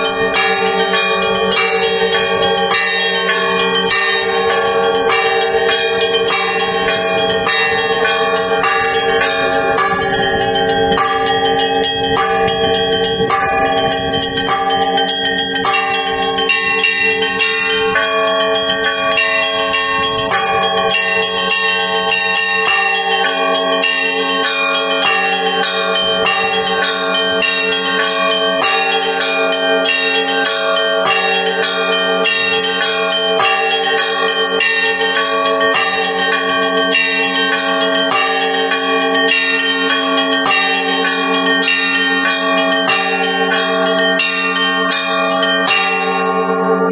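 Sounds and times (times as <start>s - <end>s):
hum of large bells: 0.0s - 46.9s
small bells struck rhythmically: 0.0s - 46.9s.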